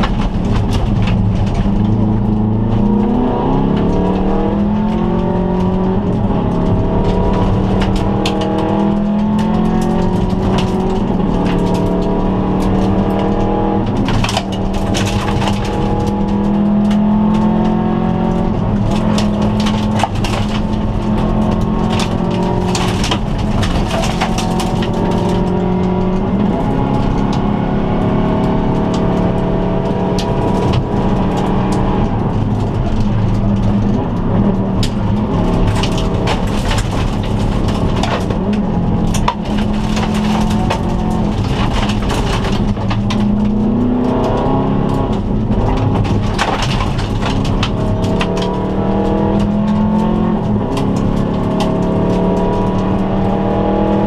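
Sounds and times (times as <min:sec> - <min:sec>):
gravel striking car: 0:00.0 - 0:54.0
rally car engine revving: 0:00.0 - 0:54.0.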